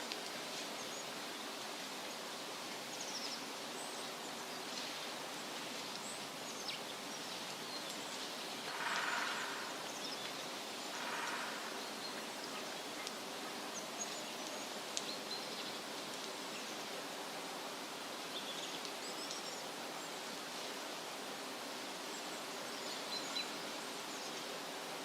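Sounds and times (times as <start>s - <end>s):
wind rustling tree leaves: 0.0s - 25.0s.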